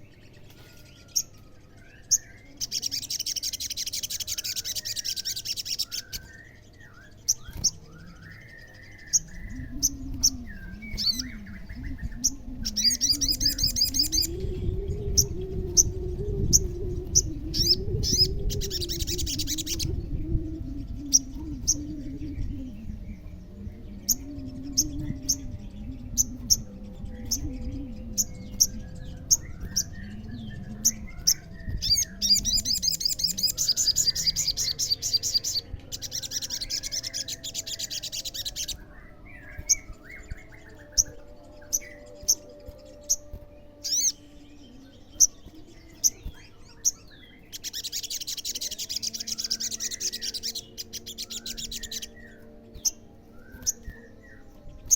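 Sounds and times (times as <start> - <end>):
low wavering hum: 0.0 - 54.9
sunbird singing: 0.0 - 54.9.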